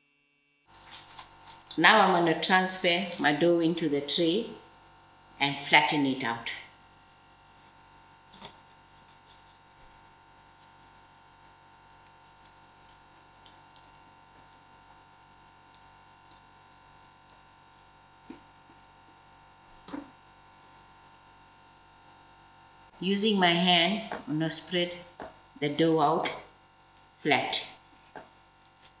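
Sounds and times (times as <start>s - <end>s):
room hum: 0.0s - 29.0s.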